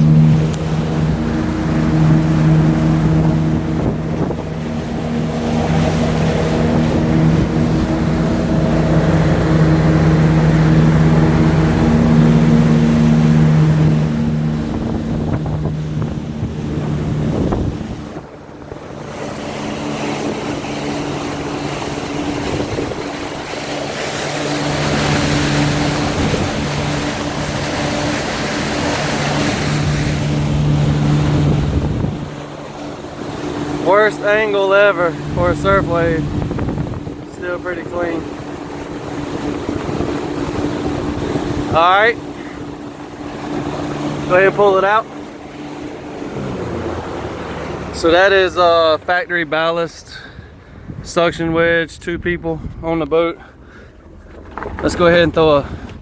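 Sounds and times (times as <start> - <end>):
rushing water: 0.0 - 51.4, 53.2 - 56.0
boat engine running: 0.0 - 56.0
wind: 0.0 - 56.0.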